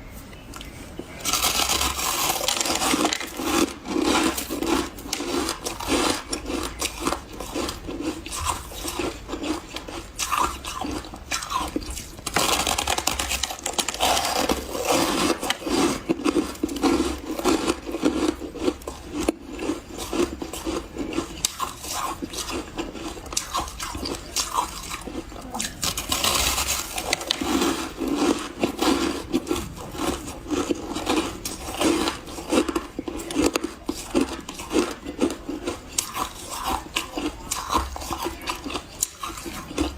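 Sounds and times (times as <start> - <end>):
chewing crunchy ice: 0.6 - 39.9.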